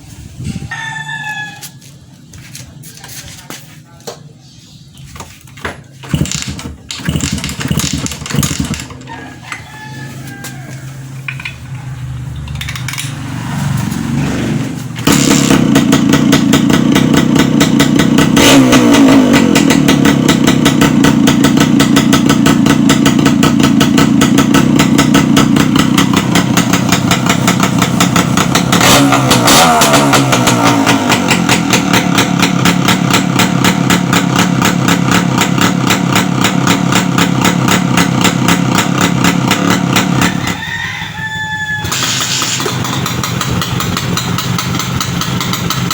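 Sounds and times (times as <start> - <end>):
motorcycle engine idling: 5.0 - 45.9
motorcycle engine revving: 5.4 - 45.9.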